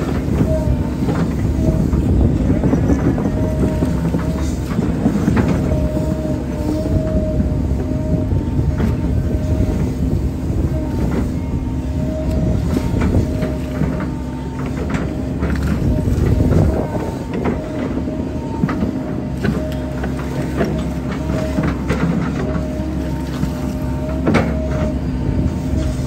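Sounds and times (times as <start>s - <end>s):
excavator engine and hydraulics droning: 0.0s - 26.0s
hydraulic whine: 0.0s - 26.0s.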